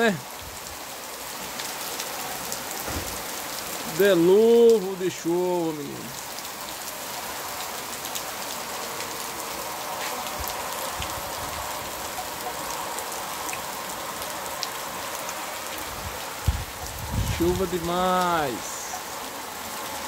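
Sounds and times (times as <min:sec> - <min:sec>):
heavy rain hissing: 0:00.0 - 0:20.0
rain drops ticking close by: 0:00.0 - 0:20.0.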